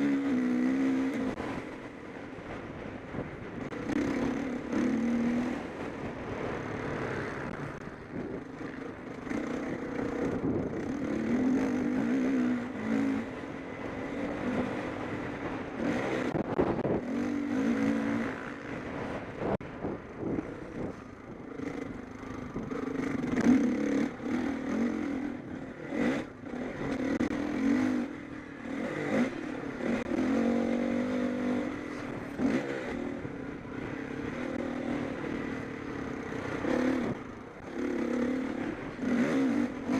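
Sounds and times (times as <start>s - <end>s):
motocross bike engines revving: 0.0s - 2.4s, 3.1s - 39.9s.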